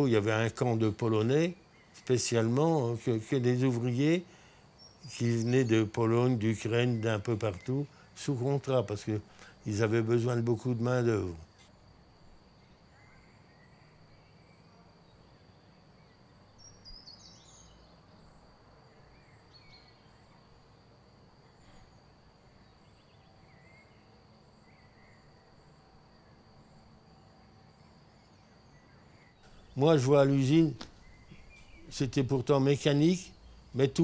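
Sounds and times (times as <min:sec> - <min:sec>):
distant bird chirps: 0:00.0 - 0:11.7, 0:12.4 - 0:20.6, 0:21.5 - 0:34.0.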